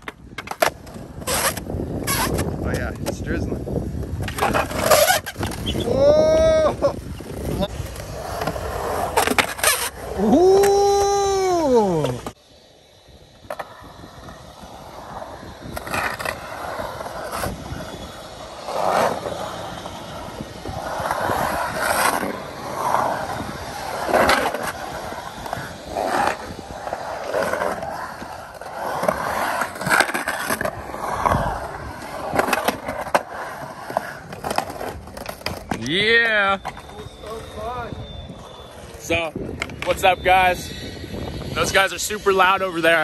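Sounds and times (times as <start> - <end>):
skateboard wheels rolling on concrete: 0.0 - 43.0.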